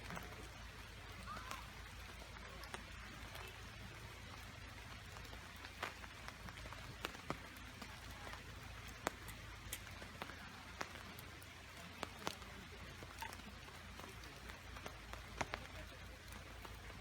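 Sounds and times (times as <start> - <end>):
raindrops ticking close by: 0.0 - 17.0
steady rain hiss: 0.0 - 17.0.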